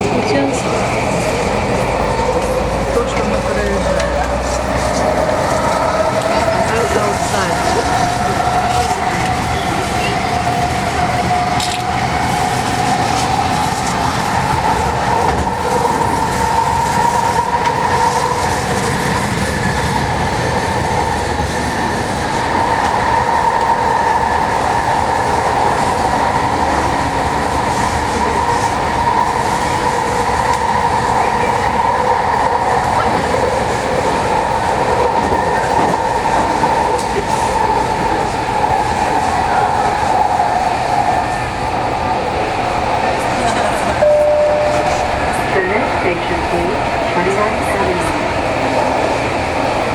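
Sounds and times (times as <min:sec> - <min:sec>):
train drive whine: 0:00.0 - 0:49.9
wheels rumbling on rails: 0:00.0 - 0:49.9.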